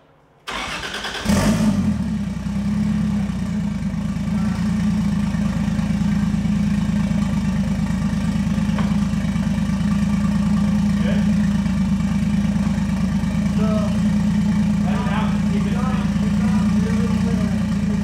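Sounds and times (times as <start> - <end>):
car engine starting and idling: 0.4 - 18.0.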